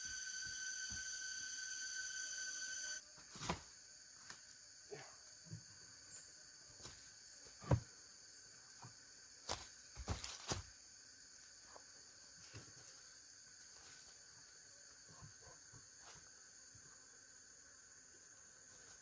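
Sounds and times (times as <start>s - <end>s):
forest insects chorus: 0.0s - 19.0s.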